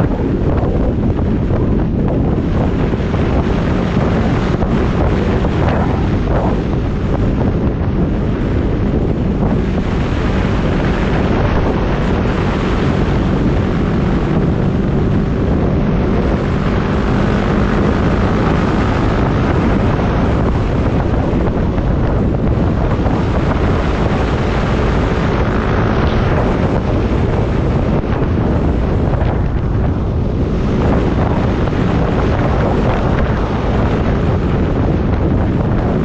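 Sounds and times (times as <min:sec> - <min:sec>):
motorcycle engine cruising: 0:00.0 - 0:36.0
wind rushing over microphone: 0:00.0 - 0:36.0.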